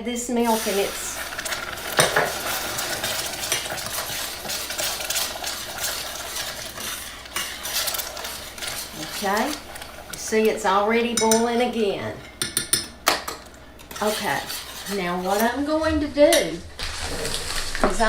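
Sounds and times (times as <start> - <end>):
bubbling hiss: 0.0 - 11.2, 13.6 - 18.0
spoon clinking and scraping a pan: 0.4 - 15.7.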